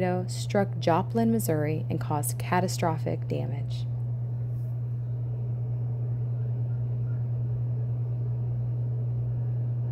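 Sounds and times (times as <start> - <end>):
low hum: 0.0 - 9.9.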